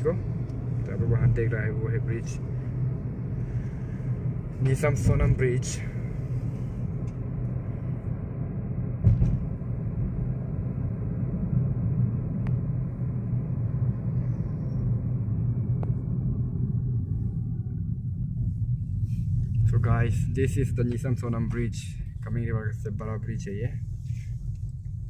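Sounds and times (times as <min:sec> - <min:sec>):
car interior road rumble: 0:00.0 - 0:25.0.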